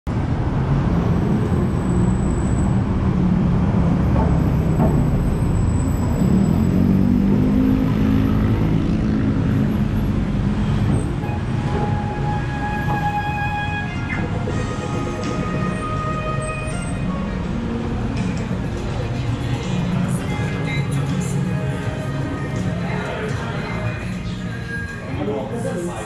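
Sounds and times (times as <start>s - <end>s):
car and bus engines droning: 0.1s - 26.0s.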